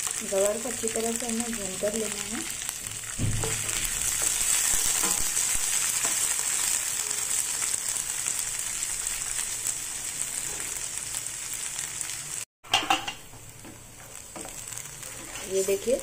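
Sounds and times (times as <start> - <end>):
beans sizzling in hot oil: 0.0 - 16.0.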